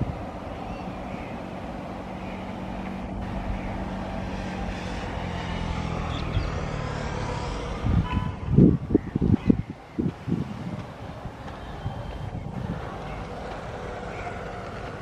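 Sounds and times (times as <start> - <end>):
electric locomotive hum: 0.0 - 15.0
wheels rumbling on rail: 0.0 - 15.0.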